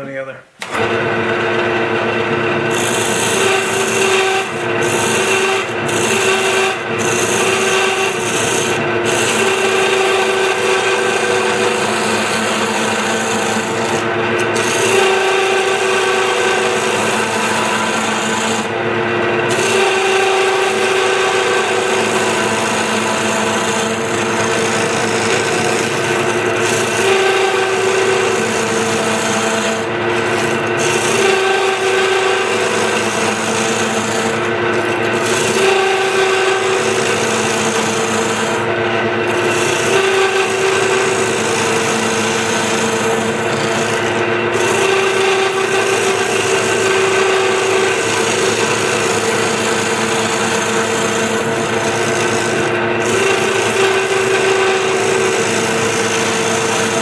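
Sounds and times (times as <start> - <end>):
chisel scraping spinning wood: 0.6 - 57.0
wood lathe humming: 0.6 - 57.0.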